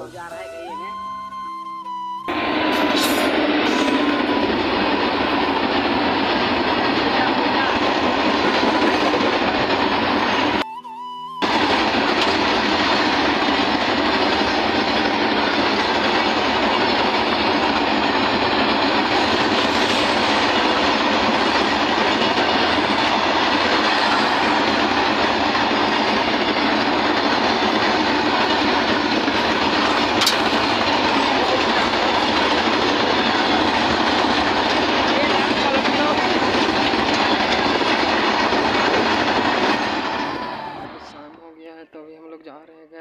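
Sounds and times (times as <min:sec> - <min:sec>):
freight train wheels clattering: 0:02.3 - 0:10.6, 0:11.4 - 0:41.3.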